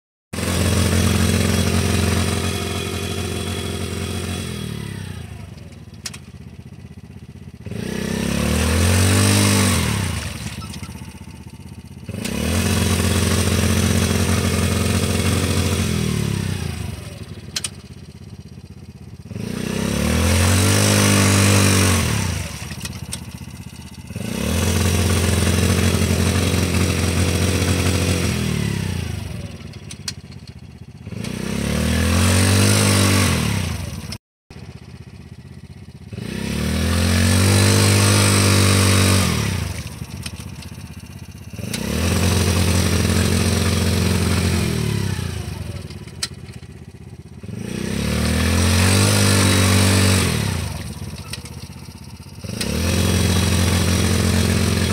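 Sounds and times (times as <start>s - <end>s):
atv engine revving: 0.4s - 54.9s.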